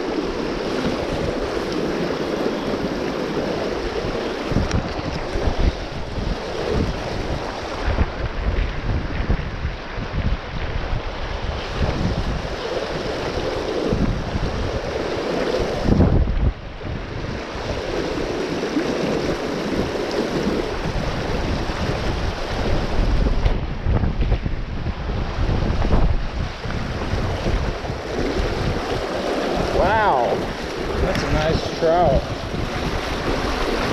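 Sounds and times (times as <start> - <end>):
river rushing and splashing: 0.0 - 33.9
wind buffeting microphone: 0.0 - 33.9.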